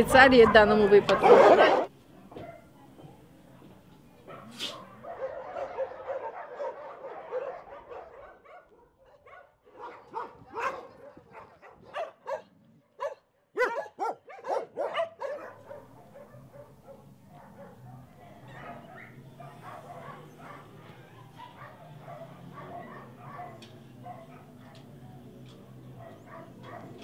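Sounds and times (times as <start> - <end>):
dogs barking: 0.0 - 2.9, 4.2 - 27.0.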